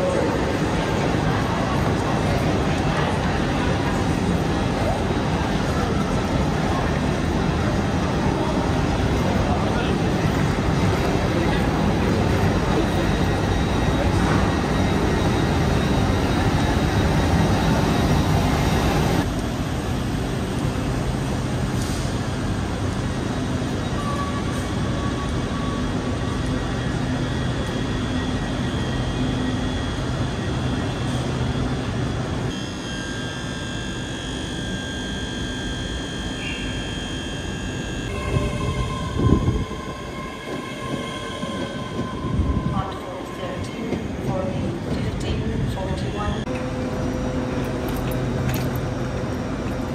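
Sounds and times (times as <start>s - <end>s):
train humming: 0.0s - 49.9s.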